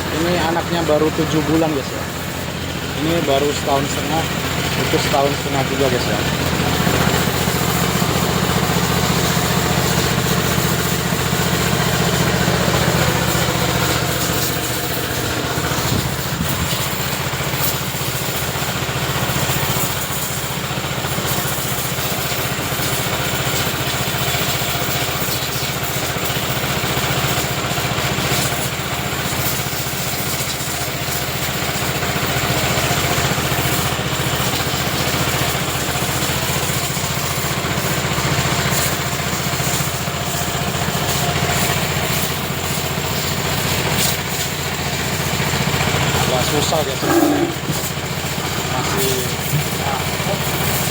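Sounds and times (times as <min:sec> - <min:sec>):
pressure washer motor drone: 0:00.0 - 0:50.9.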